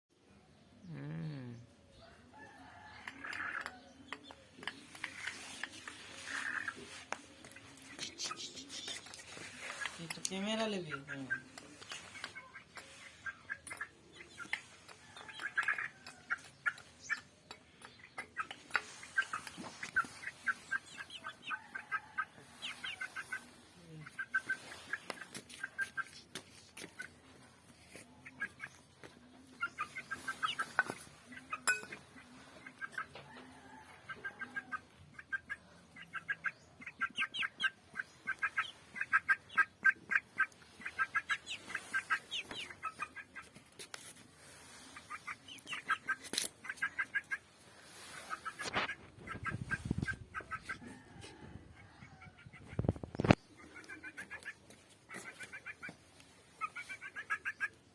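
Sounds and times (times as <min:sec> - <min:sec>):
chickens clucking: 0:01.6 - 0:57.9.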